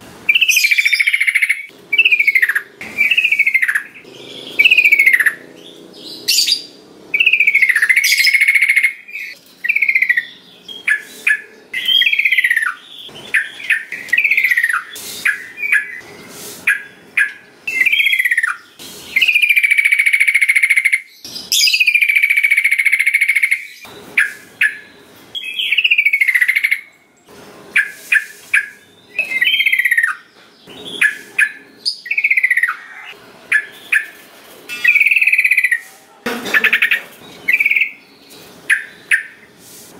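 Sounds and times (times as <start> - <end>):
bird singing whistled notes: 0.3 - 26.9, 27.8 - 35.8, 37.4 - 39.4.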